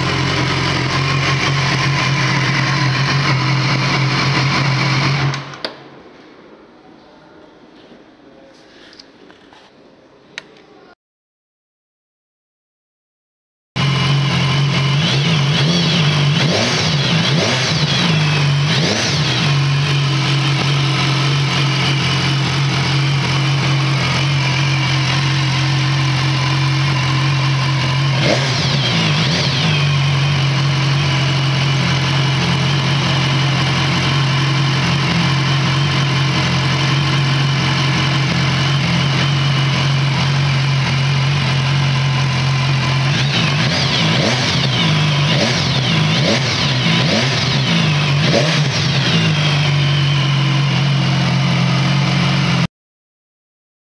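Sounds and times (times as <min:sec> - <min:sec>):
motorcycle engine idling and revving: 0:00.0 - 0:05.8, 0:13.8 - 0:52.7.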